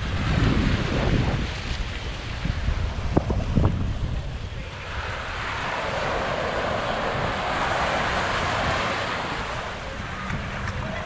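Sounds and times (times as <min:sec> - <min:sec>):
wave washing up sand: 0:00.0 - 0:11.0.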